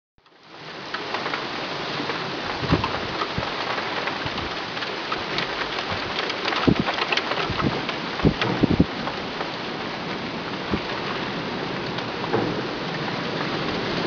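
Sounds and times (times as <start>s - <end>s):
heavy rain falling: 0.2s - 14.0s
raindrops hitting close surfaces: 0.2s - 14.0s.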